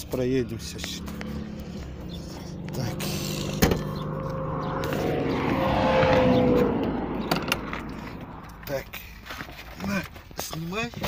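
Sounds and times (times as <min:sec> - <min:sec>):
car engine running: 0:00.0 - 0:10.9.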